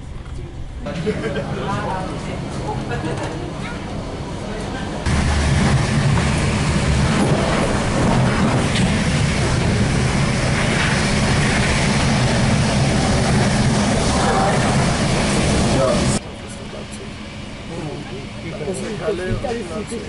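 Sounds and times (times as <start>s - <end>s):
train coach rumbling on track: 0.0s - 20.0s.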